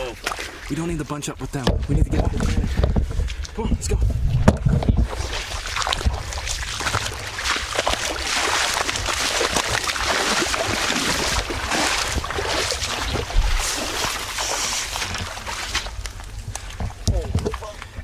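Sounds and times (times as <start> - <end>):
wading through sloshing water: 0.0 - 18.0.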